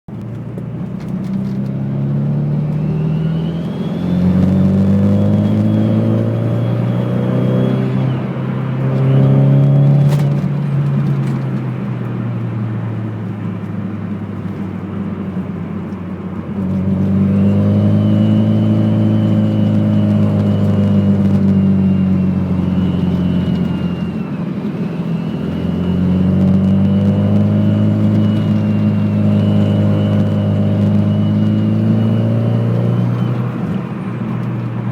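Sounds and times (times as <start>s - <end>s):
car engine pulling under load: 0.1s - 34.9s
turbo whine: 1.8s - 11.8s, 16.5s - 34.9s.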